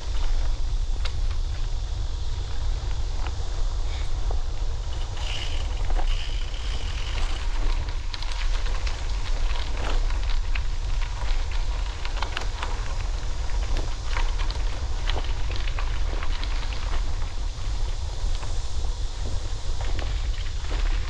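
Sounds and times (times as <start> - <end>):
bicycle tyres crackling on trail: 0.0 - 21.0
wind rumbling on microphone: 0.0 - 21.0.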